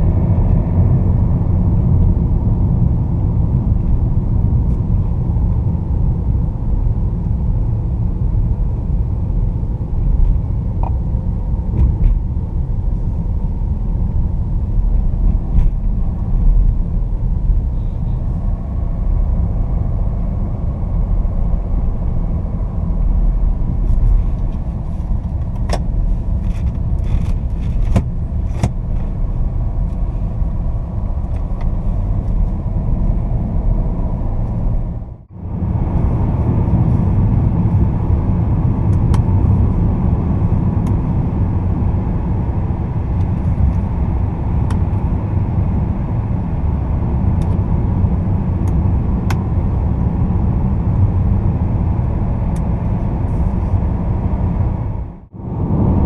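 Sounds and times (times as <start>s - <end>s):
car engine drone: 0.0s - 56.0s
tyre and road rumble: 0.0s - 56.0s.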